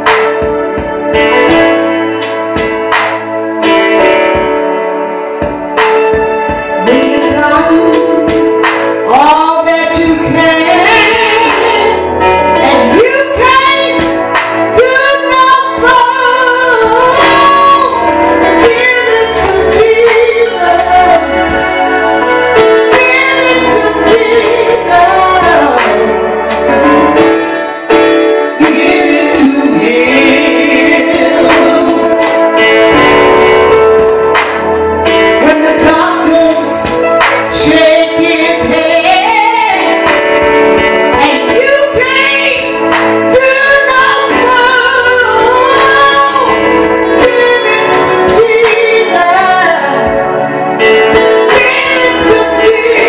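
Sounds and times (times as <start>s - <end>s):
instrumental accompaniment: 0.0s - 53.0s
person singing gospel: 0.0s - 53.0s.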